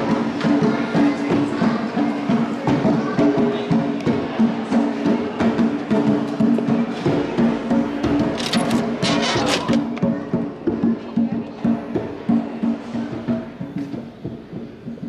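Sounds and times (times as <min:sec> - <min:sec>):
music with tapping percussion: 0:00.0 - 0:15.0.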